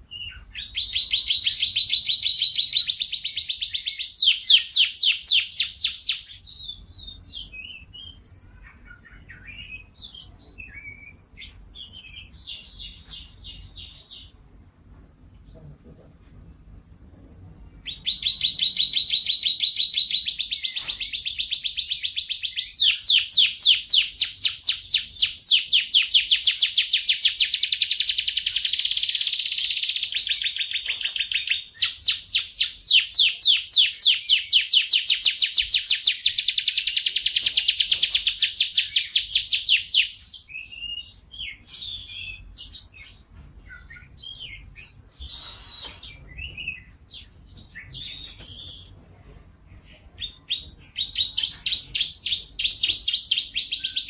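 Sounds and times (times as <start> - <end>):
canary trilling: 0.0 - 14.5, 17.8 - 48.9, 49.9 - 54.0
canary chirps: 0.0 - 14.7, 17.8 - 49.0, 49.7 - 54.0.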